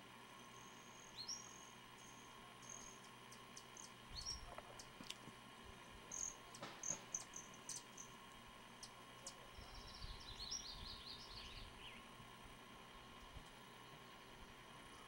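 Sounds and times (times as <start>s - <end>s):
hummingbird chip notes: 0.0s - 5.0s, 5.7s - 15.0s.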